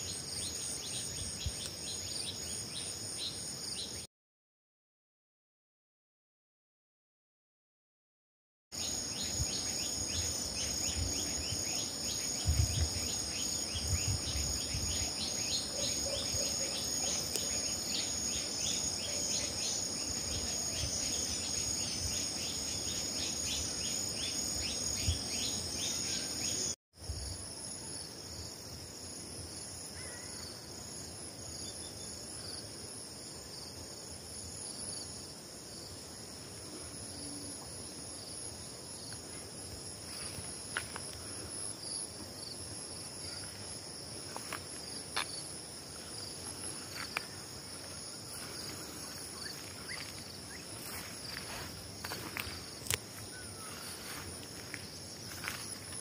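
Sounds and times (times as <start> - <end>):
insects chirring: 8.8 - 56.0.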